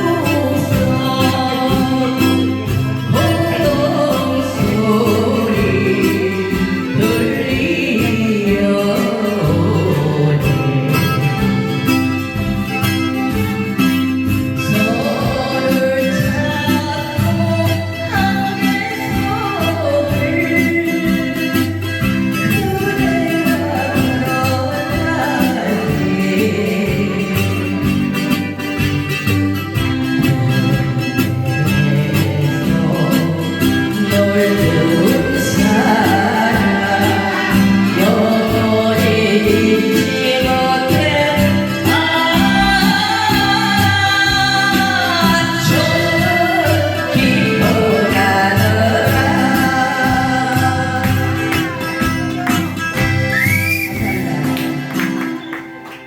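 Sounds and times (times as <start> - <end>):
woman singing: 0.0 - 11.8, 14.2 - 28.6, 30.1 - 55.7
band accompaniment: 0.0 - 56.0.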